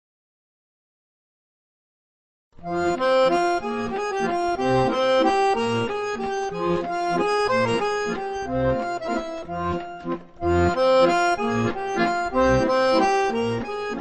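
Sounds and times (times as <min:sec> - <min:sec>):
lively accordion music: 0:02.6 - 0:14.0.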